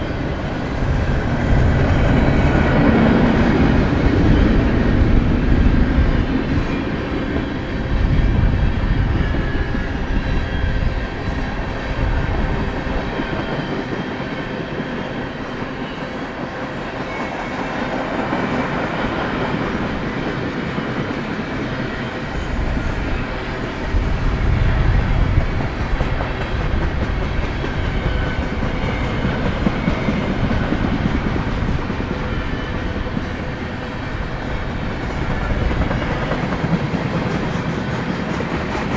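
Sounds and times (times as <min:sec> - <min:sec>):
freight train rumbling on rails: 0:00.0 - 0:38.9.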